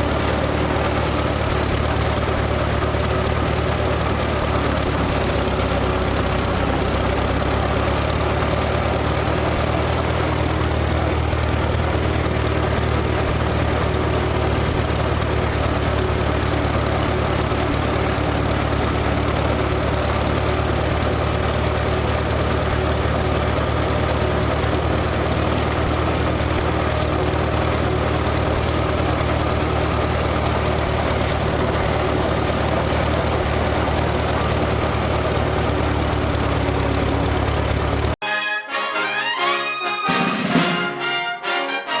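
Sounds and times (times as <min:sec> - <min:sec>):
tractor engine running: 0:00.0 - 0:38.2.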